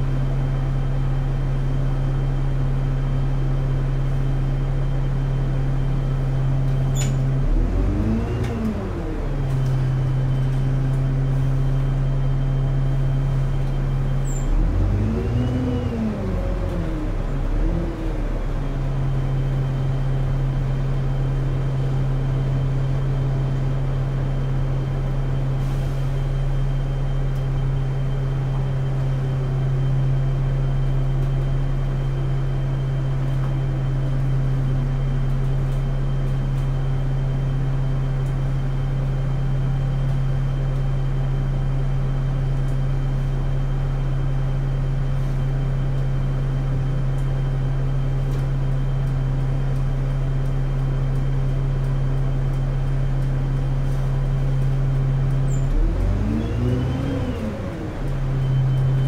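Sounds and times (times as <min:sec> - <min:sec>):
diesel bus engine idling: 0:00.0 - 0:59.0.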